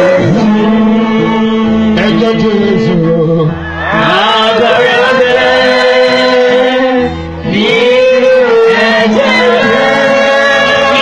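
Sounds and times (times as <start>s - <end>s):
gospel singing: 0.0s - 11.0s
musical backing: 0.0s - 11.0s.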